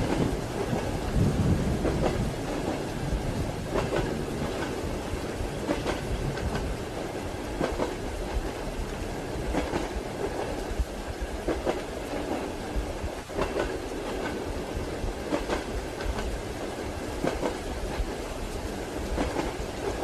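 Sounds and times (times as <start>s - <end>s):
railway carriage rumble: 0.0s - 20.0s
train wheels clickety-clack: 0.0s - 20.0s.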